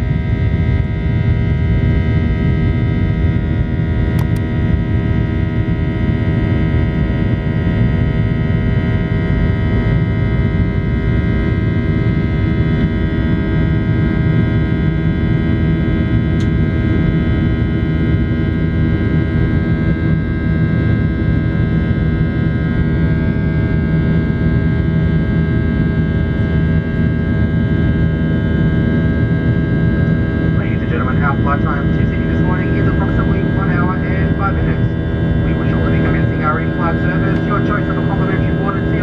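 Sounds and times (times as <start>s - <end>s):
jet engine cabin roar: 0.0s - 39.0s.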